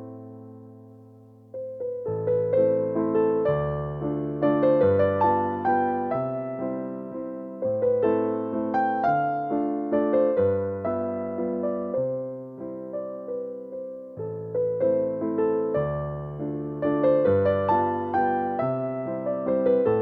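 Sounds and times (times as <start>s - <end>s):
gentle solo piano: 0.0s - 20.0s.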